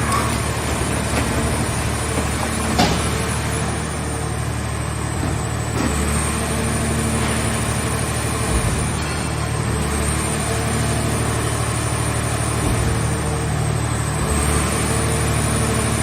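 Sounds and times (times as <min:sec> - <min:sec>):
baler machine drone: 0:00.0 - 0:16.0.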